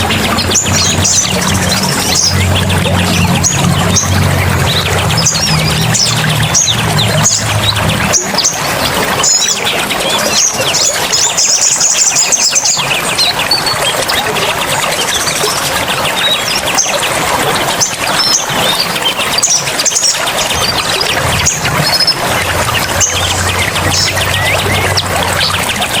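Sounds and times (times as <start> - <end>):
running water rushing: 0.0 - 26.0
small songbirds chirping: 0.0 - 26.0.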